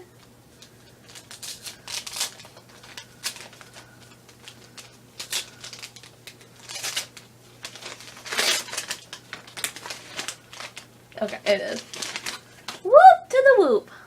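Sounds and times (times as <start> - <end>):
package wrapping rustling: 0.2 - 12.9.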